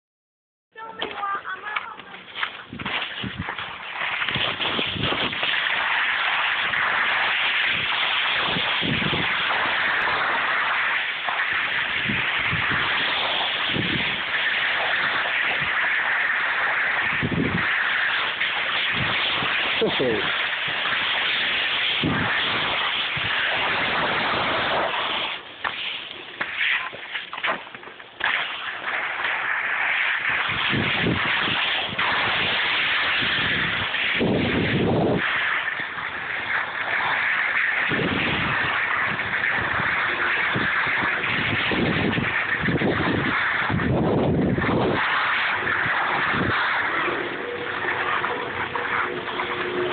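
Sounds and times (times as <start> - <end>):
skis scraping on packed snow: 0.8 - 49.9
wind buffeting microphone: 2.0 - 5.8, 6.6 - 10.6, 11.3 - 24.7, 30.2 - 49.9.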